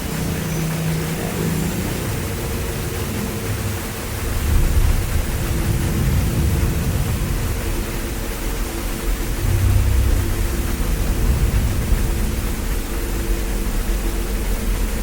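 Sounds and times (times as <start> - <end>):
faint steady hum: 0.0 - 15.0
waterfall rushing: 0.0 - 15.0.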